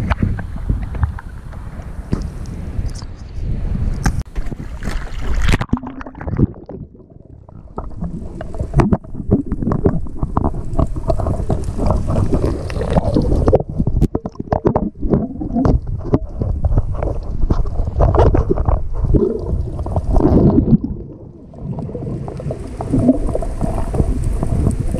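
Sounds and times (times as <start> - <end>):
underwater clicks and pops: 0.0 - 3.2, 3.9 - 21.0
water splashing: 4.2 - 24.9
muffled underwater sloshing: 4.3 - 24.9.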